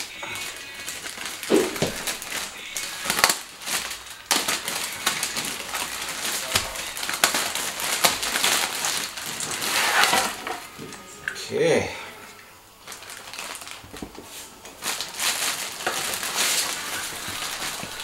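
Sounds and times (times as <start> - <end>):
plastic wrapping crinkling: 0.0 - 11.4, 12.8 - 18.0.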